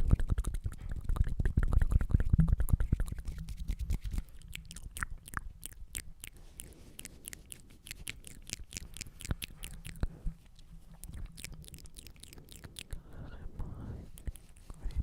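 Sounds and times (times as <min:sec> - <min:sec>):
tongue clicks and lip smacks: 0:00.0 - 0:15.0.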